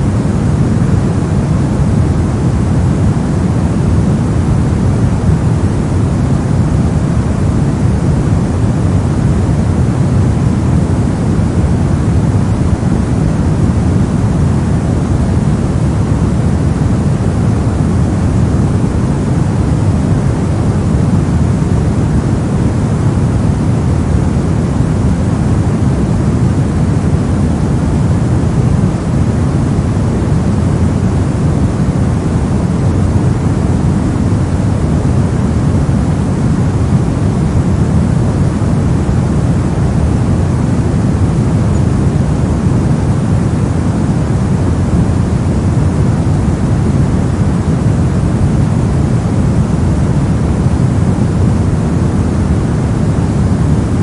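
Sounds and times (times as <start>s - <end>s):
low-pitched rumbling noise: 0.0s - 54.0s.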